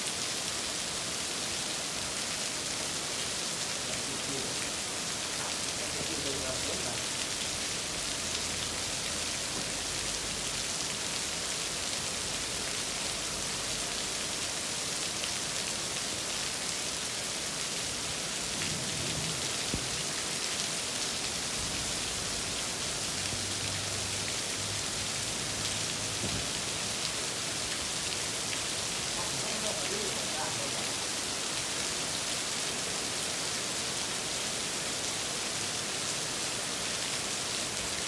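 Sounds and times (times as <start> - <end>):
heavy rain on street and roofs: 0.0 - 38.0.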